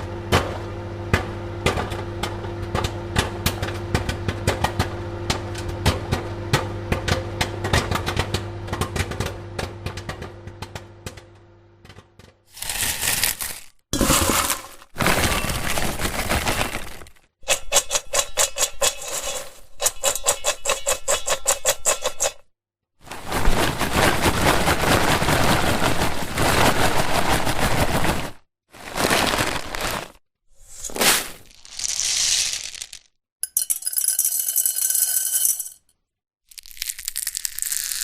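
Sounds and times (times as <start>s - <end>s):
popcorn popping: 0.2s - 22.4s, 23.0s - 30.2s, 30.9s - 35.7s, 36.5s - 38.0s.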